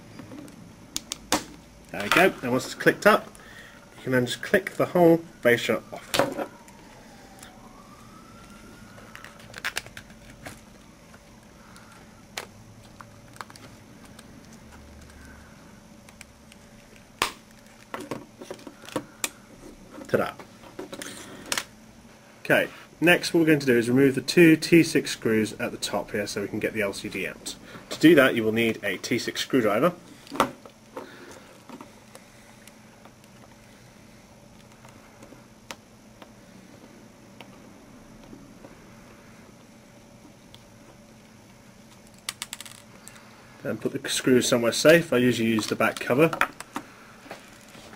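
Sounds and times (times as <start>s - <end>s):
low steady background hiss: 0.0s - 47.9s
low steady hum: 0.0s - 47.9s.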